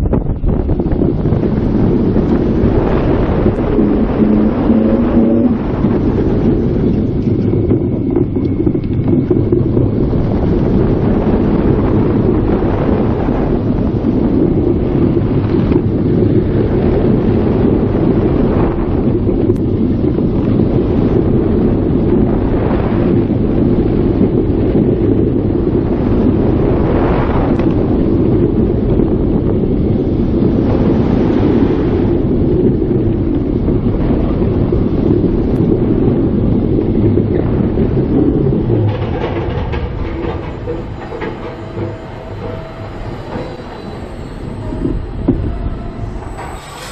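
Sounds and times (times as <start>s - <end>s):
roller coaster rumbling on track: 0.0s - 46.9s
wind buffeting microphone: 0.0s - 46.9s.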